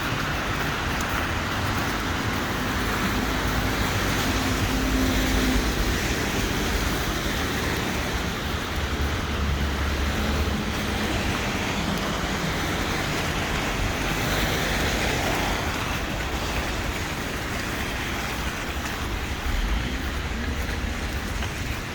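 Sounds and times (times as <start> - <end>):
street traffic noise: 0.0 - 21.9
vehicle engine hum passing: 0.0 - 21.9.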